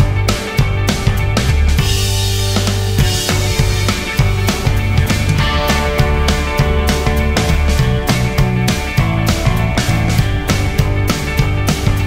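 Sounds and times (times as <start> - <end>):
drum beat: 0.0 - 12.0
upbeat rock music: 0.0 - 12.0.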